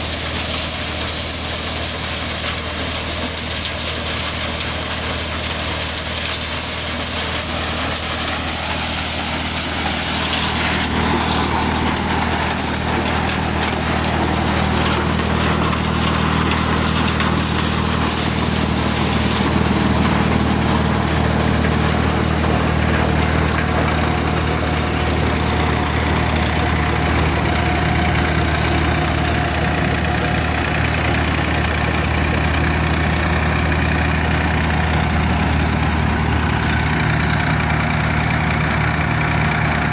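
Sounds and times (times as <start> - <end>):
maize thresher running: 0.0 - 39.9
tractor diesel engine: 0.0 - 39.9.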